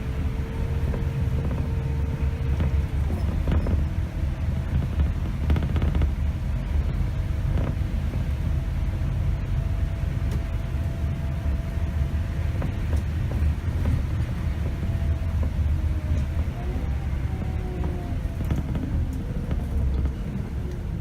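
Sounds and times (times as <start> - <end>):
bus diesel engine rumble: 0.0 - 21.0
road noise: 0.0 - 21.0.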